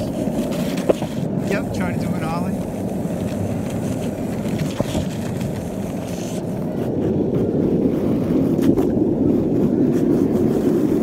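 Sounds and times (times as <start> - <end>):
skateboard wheels rolling on asphalt: 0.0 - 11.0
wind on microphone: 0.0 - 11.0.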